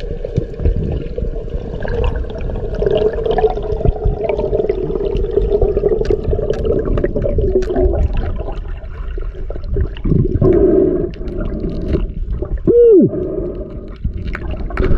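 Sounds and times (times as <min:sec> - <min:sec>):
water swirling and gurgling underwater: 0:00.0 - 0:14.9.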